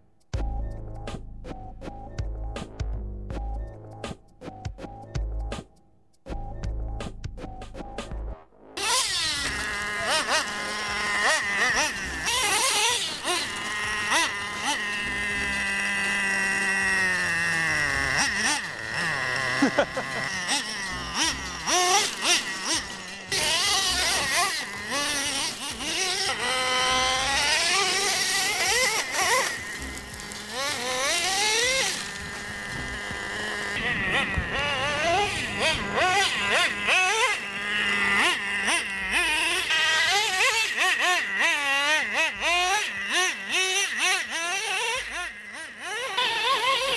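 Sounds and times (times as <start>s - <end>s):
small nitro engine revving: 8.7s - 46.9s.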